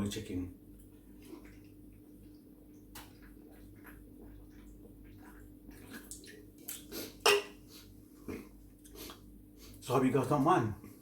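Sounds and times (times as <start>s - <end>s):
low steady hum: 0.0s - 11.0s
person chewing food: 0.8s - 9.8s.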